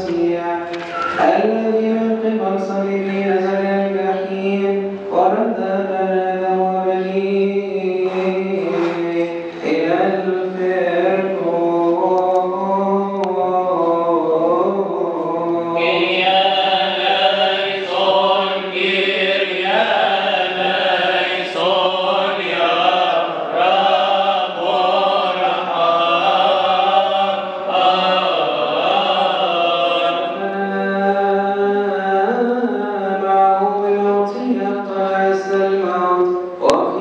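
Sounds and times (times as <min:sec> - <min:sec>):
man chanting a hymn: 0:00.0 - 0:37.0.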